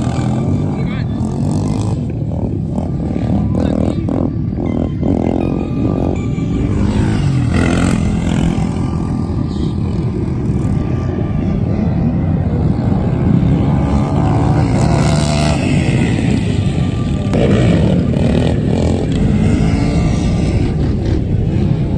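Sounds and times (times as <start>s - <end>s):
quad engines revving: 0.0s - 21.9s.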